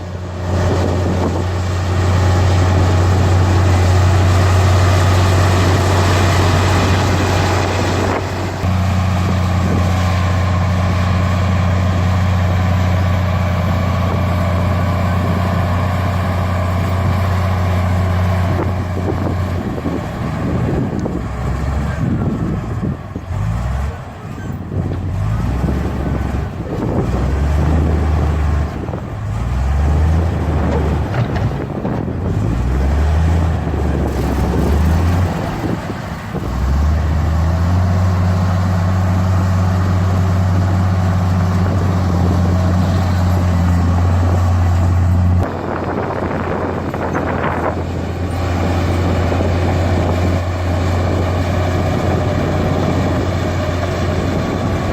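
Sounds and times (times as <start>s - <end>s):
heavy diesel engine revving: 0.0s - 54.9s.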